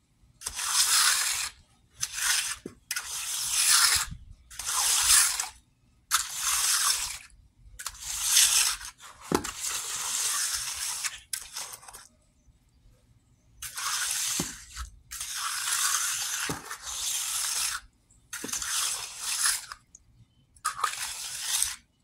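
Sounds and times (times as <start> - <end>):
trowel scraping wet concrete: 0.4 - 12.1, 13.6 - 19.8, 20.6 - 21.9.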